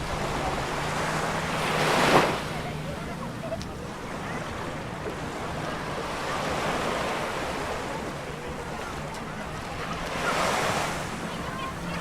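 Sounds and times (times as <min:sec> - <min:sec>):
surf breaking on a beach: 0:00.0 - 0:12.0.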